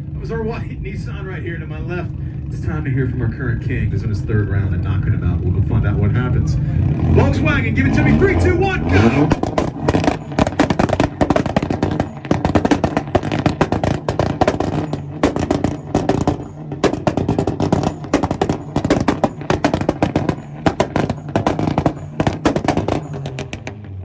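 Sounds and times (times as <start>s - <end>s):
engine running: 0.2s - 24.0s
exhaust pops and bangs: 3.8s - 24.0s.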